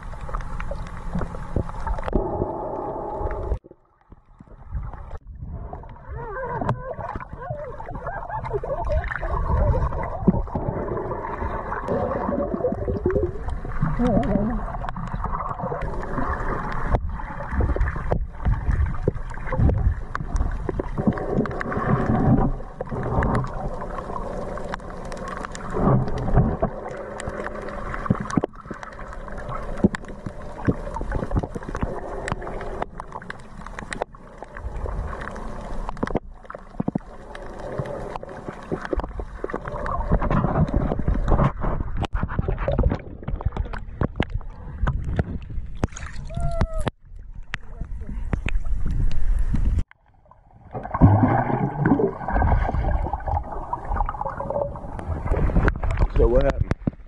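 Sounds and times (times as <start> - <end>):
muffled underwater water noise: 0.0 - 57.0.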